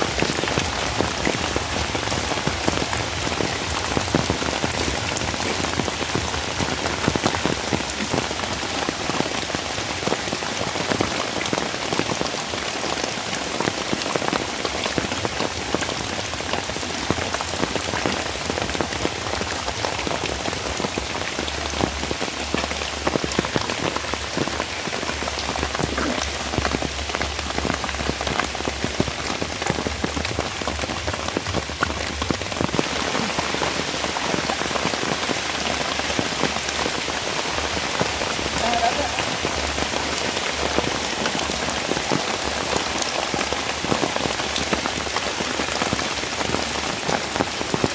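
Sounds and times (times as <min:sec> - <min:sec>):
steady rain patter: 0:00.0 - 0:47.9.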